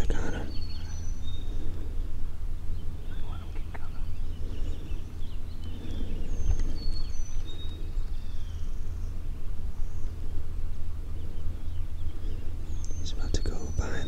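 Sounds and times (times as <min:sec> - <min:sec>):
small birds singing: 0:00.0 - 0:14.0
steady low rumble: 0:00.0 - 0:14.0.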